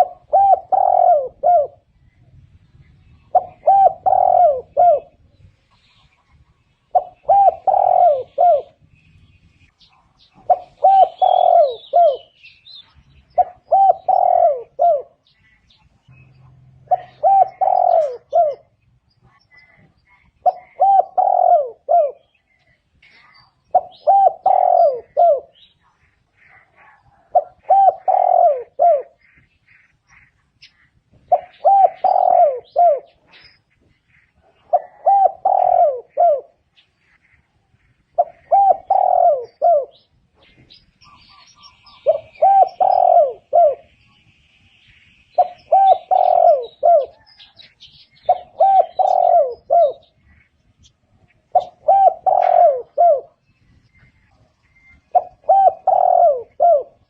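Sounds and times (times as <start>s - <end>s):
dove cooing: 0.0s - 2.2s, 2.8s - 8.8s, 9.8s - 15.7s, 16.5s - 29.5s, 31.1s - 33.6s, 34.2s - 44.0s, 45.3s - 54.1s, 54.7s - 57.0s
small birds chirping: 0.0s - 57.0s.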